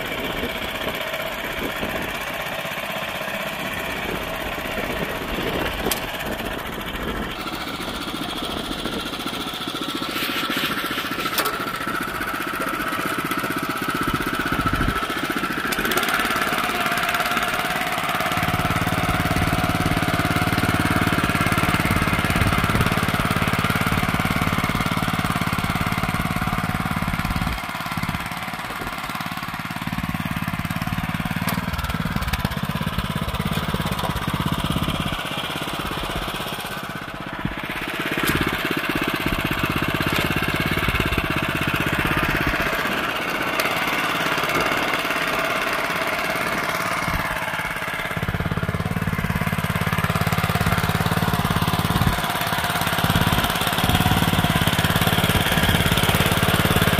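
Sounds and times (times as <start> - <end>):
tiller engine running under load: 0.0 - 56.9.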